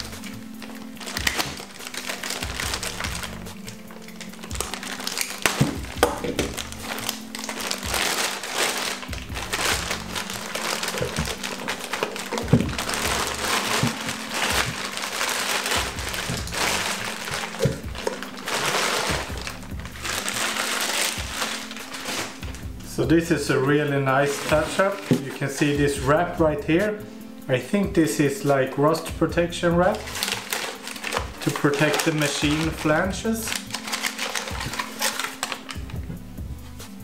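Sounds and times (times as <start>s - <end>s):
plastic bag crinkling: 0.0s - 25.9s, 29.9s - 36.1s.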